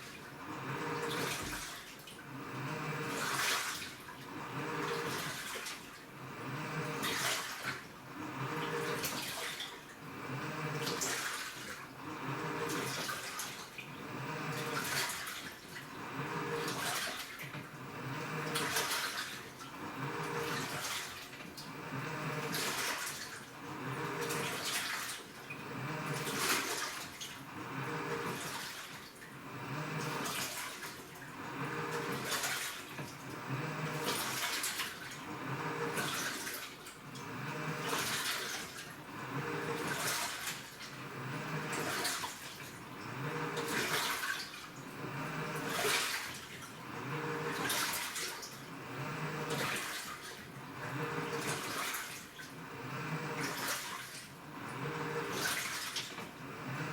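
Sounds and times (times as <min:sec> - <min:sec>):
washing machine water sloshing: 0:00.0 - 0:56.9.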